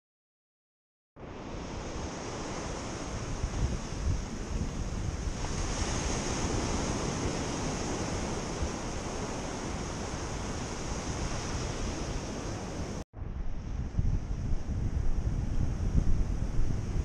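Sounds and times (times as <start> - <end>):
surf on a beach: 1.2 - 17.0
wind gusting on microphone: 1.2 - 17.0.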